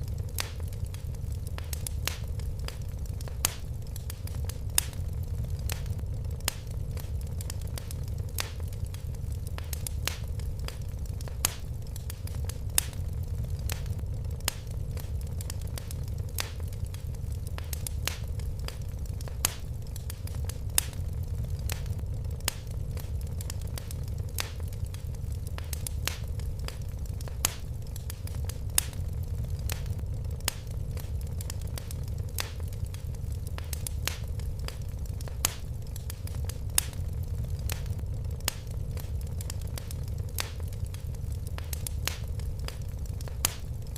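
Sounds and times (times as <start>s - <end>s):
fire crackling in a fireplace: 0.0s - 43.9s.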